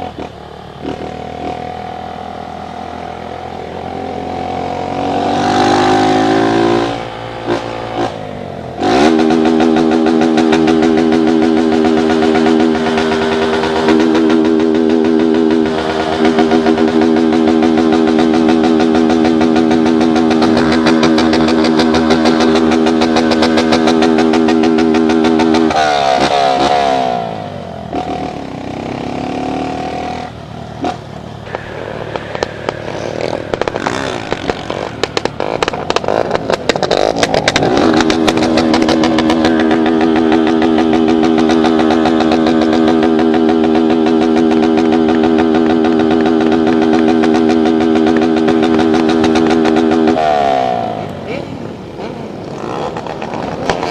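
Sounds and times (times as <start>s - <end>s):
engine clattering: 0.0s - 53.9s
motorcycle engine revving: 0.0s - 53.9s.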